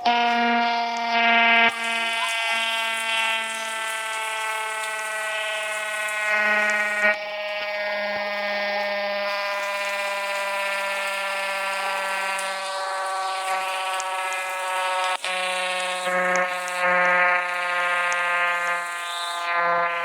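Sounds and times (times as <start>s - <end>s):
siren steady tone: 0.0s - 20.0s.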